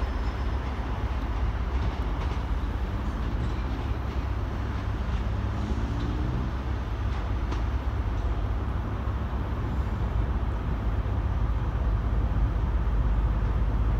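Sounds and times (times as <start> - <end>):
diesel train engine drone: 0.0 - 13.9.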